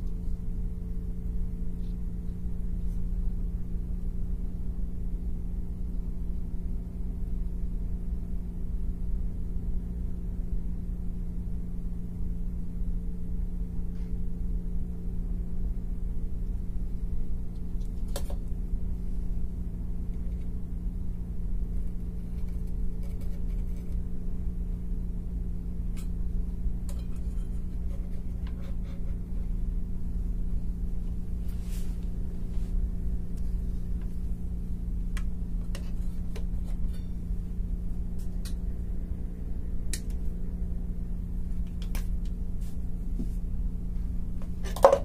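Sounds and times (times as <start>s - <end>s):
low machine hum with rumble: 0.0s - 45.0s.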